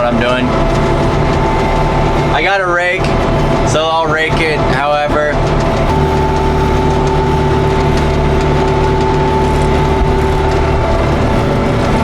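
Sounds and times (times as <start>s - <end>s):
mower driveline whine: 0.0s - 12.0s
tractor engine running under load: 0.0s - 12.0s.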